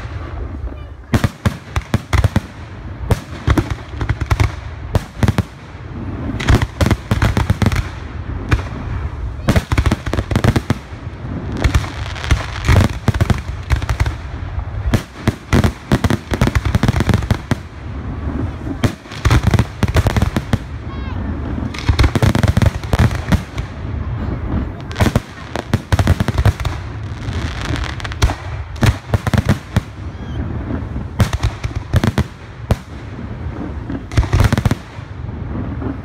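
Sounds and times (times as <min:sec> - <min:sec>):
fireworks bangs and crackles: 0:00.0 - 0:36.0.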